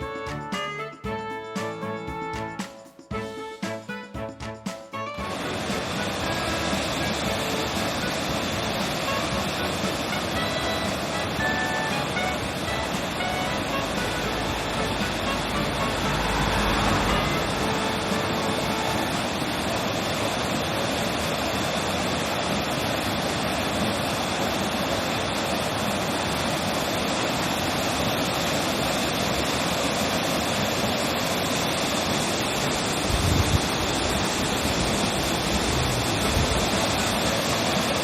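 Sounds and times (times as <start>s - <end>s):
floodwater rushing: 5.0s - 38.0s.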